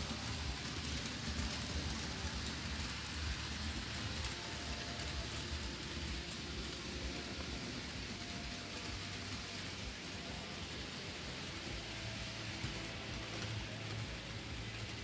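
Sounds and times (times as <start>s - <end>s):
model train wheels on rails: 0.0s - 15.0s.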